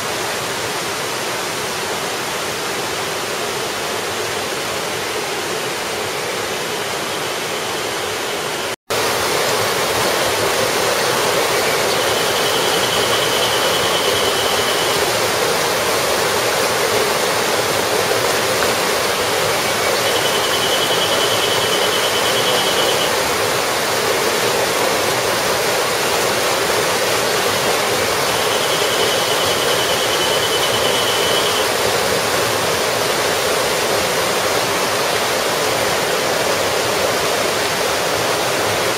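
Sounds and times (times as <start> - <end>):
water cascading over rocks: 0.0 - 38.9.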